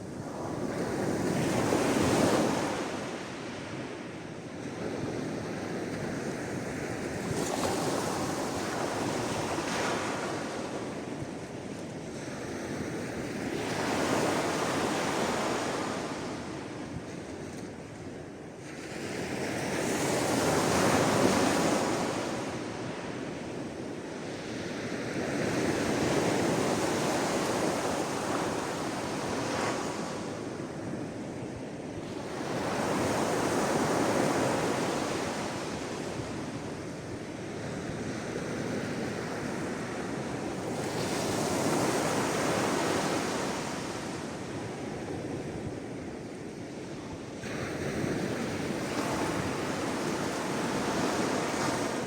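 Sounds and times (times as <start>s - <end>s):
wind: 0.0s - 52.0s.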